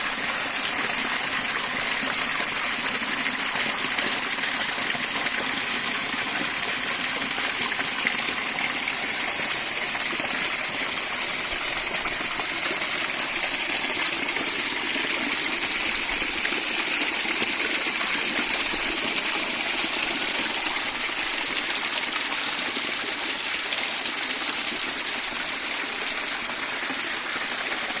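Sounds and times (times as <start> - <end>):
stream flowing over stones: 0.0 - 28.0.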